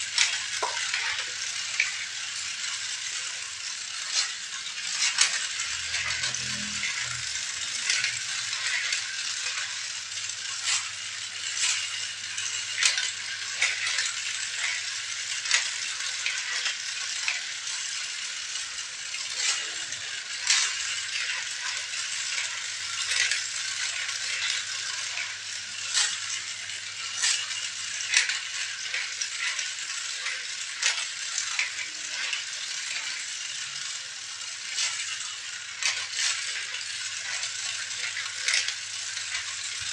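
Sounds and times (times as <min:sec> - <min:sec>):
plastic toys rattling and clicking: 0:00.0 - 0:39.9.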